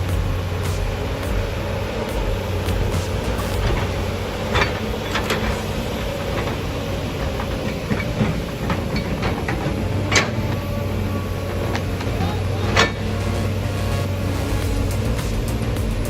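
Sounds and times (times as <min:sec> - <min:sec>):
heavy machinery running: 0:00.0 - 0:16.0.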